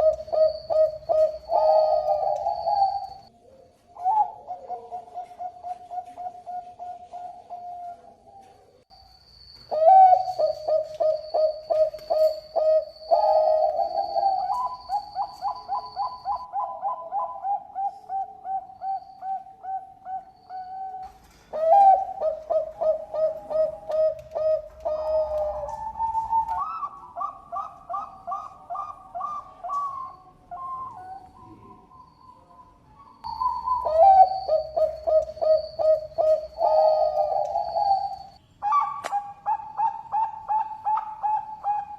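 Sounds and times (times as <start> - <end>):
dove cooing staccato notes: 0.0 - 8.8, 9.7 - 41.9.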